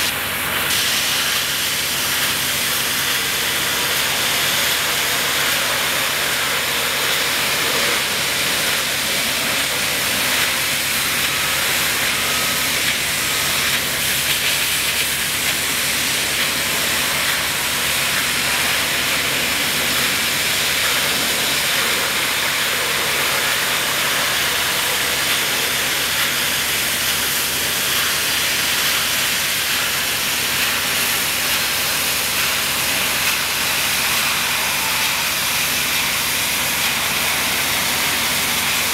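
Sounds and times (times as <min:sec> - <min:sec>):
high-pressure water spray hissing: 0:00.0 - 0:38.9.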